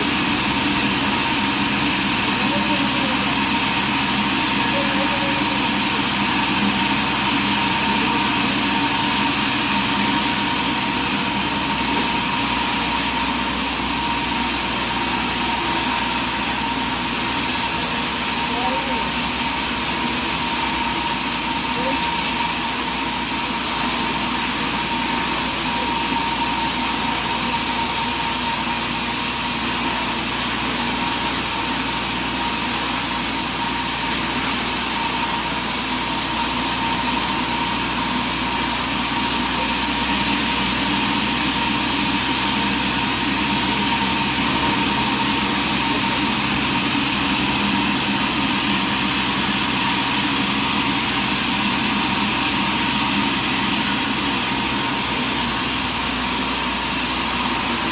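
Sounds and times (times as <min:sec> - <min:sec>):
sawmill machinery droning: 0:00.0 - 0:57.9.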